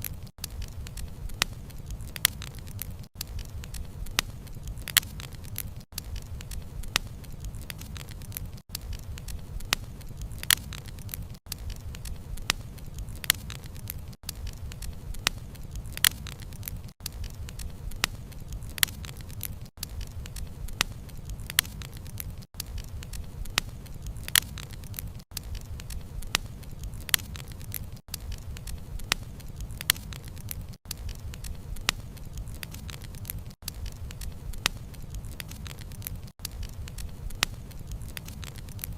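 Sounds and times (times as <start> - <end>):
burning logs popping: 0.0 - 38.9
flames rumbling: 0.0 - 38.9.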